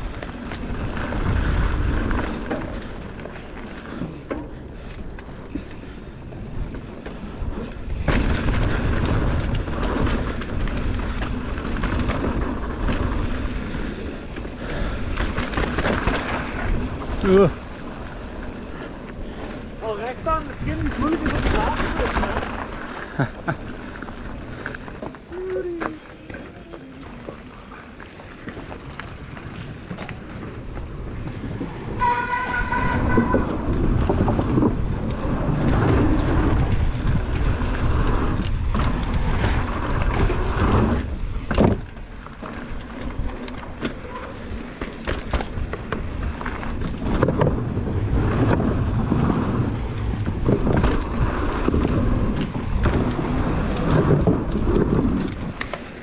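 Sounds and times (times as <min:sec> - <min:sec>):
wind noise on microphone: 0:00.0 - 0:23.4, 0:29.3 - 0:56.0
bike rattling and knocking: 0:00.0 - 0:56.0
bike tyres rolling on trail: 0:00.0 - 0:56.0.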